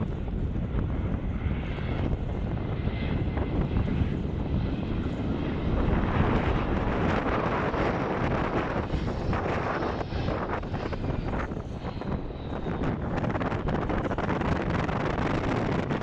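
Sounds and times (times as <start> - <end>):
jet engines rushing: 0.0 - 16.0
wind buffeting microphone: 0.0 - 16.0.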